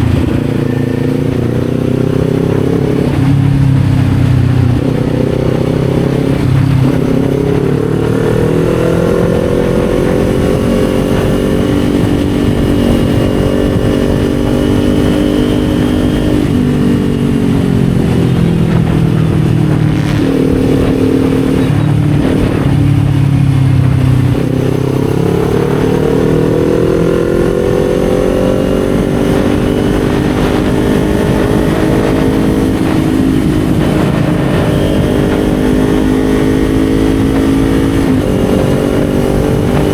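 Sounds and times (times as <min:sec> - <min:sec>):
motorcycle engine under way: 0:00.0 - 0:39.9
wind noise: 0:00.0 - 0:39.9.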